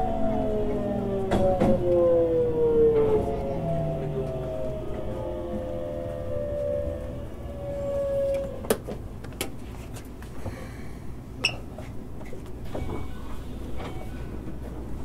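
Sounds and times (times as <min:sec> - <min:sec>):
train cabin low rumble: 0:00.0 - 0:15.0.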